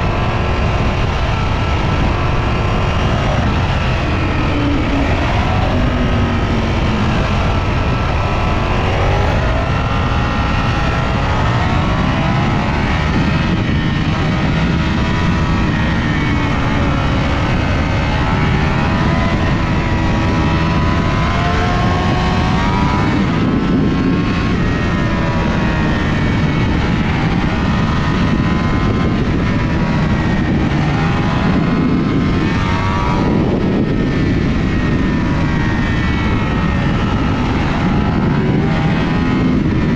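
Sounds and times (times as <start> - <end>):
loud rush of noise: 0.0 - 39.9
motorcycle engine revving: 0.0 - 39.9.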